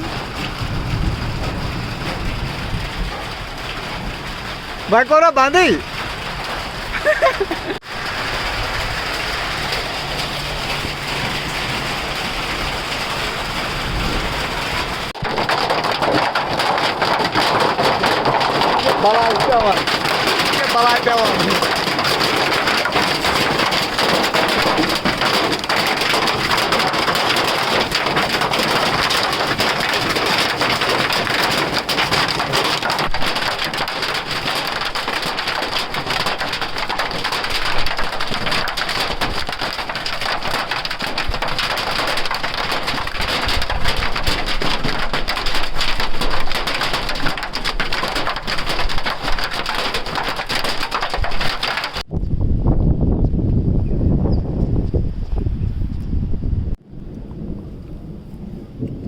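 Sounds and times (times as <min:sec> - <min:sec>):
hailstones pelting down: 0:00.0 - 0:52.1.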